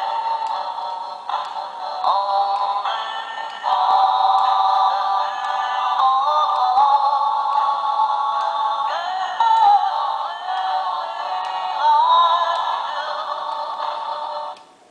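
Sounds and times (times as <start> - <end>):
music from small speaker: 0.0 - 14.6
toy singing electronic voice: 0.0 - 14.6.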